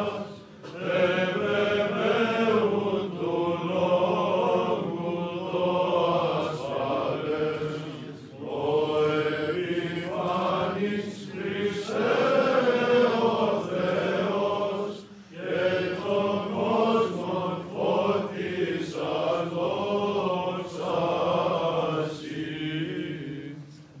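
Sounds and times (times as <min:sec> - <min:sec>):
men chanting a hymn: 0:00.0 - 0:23.6.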